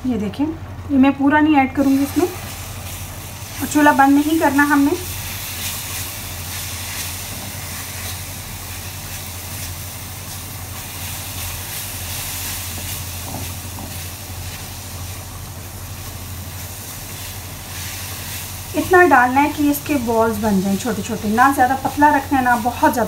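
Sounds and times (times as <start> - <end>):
coconut sizzling in a pan: 1.7 - 23.0.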